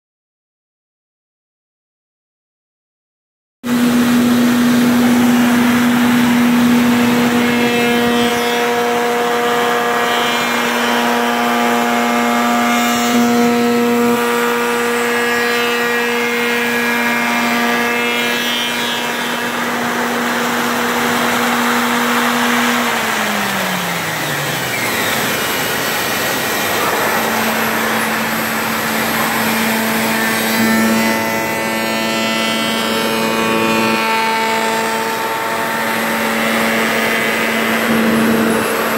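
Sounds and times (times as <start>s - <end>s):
router spindle whine: 3.7s - 38.9s.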